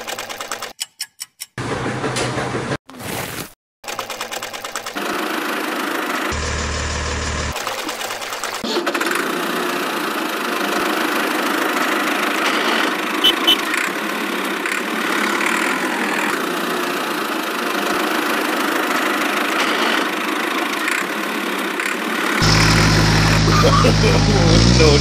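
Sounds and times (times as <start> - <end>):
toy tractor engine running: 0.0 - 1.1, 3.9 - 25.0.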